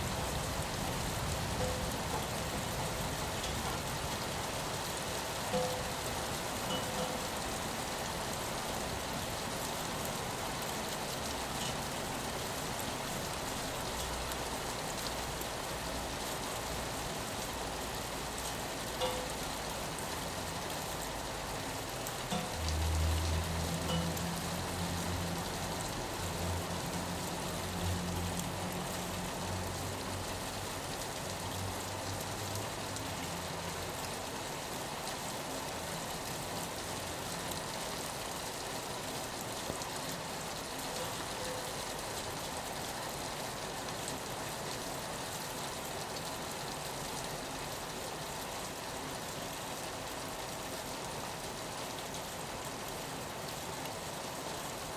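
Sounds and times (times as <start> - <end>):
rain on a window: 0.0 - 54.9.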